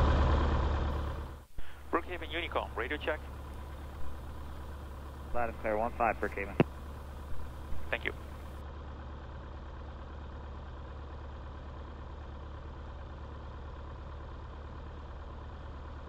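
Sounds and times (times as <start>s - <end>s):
aircraft engine idling: 0.0s - 16.0s.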